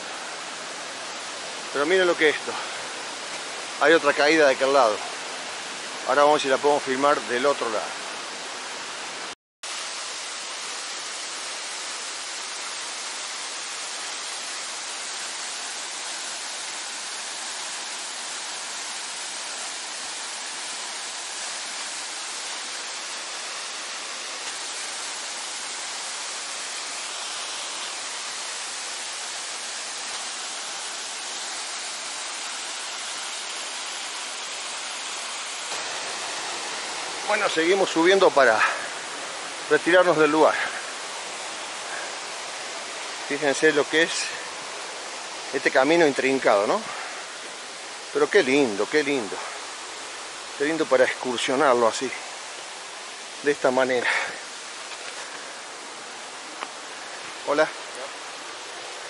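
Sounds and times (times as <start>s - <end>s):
stream and waterfall rushing: 0.0s - 59.0s.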